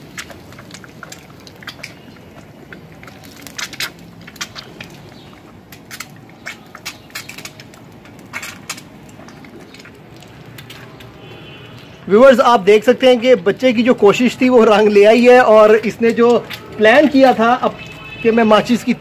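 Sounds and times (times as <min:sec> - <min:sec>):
burning matchsticks crackling: 0:00.0 - 0:19.0.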